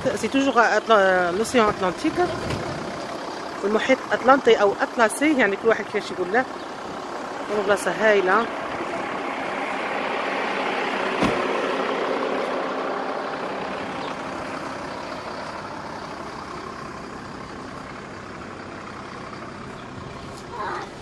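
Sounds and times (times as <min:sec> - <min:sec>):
vehicle passing: 0:00.9 - 0:21.0.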